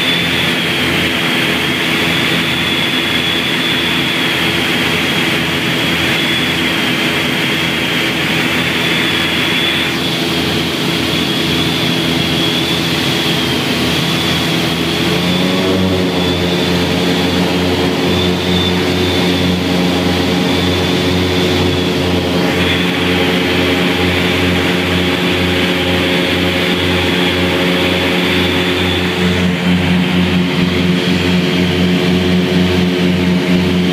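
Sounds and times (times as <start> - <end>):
aircraft engines and propellers drone: 0.0 - 33.9.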